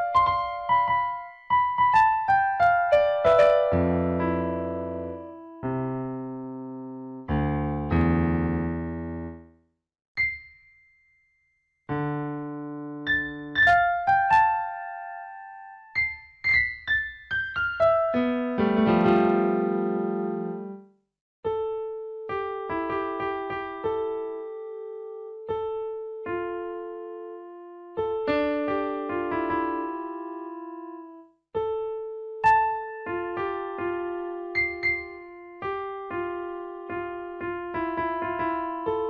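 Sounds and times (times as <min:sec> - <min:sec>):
slow piano music: 0:00.0 - 0:11.2, 0:11.8 - 0:39.0.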